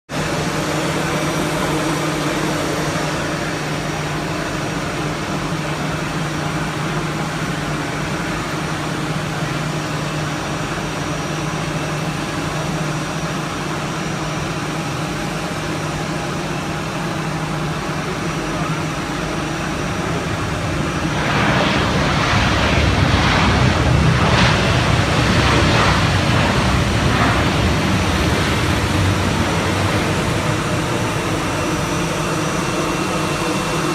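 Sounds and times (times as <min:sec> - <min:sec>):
jet airliner landing: 0:00.1 - 0:33.9.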